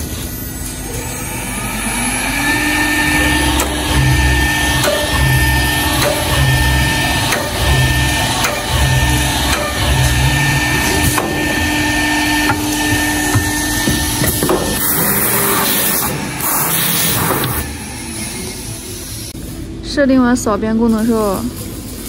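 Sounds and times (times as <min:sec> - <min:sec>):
spindle whine: 0:00.0 - 0:19.4
low pulsing rumble: 0:00.5 - 0:19.4.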